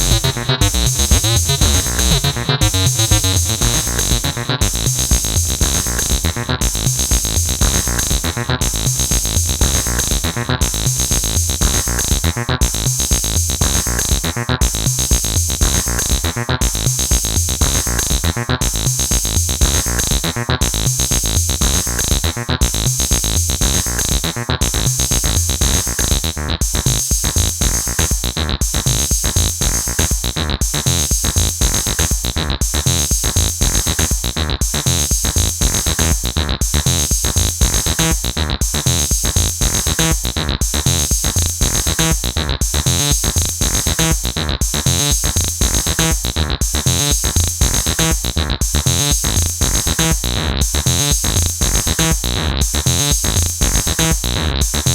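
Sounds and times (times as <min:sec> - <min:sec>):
drum machine beat: 0:00.0 - 0:54.9
synthesizer bassline: 0:00.0 - 0:54.9.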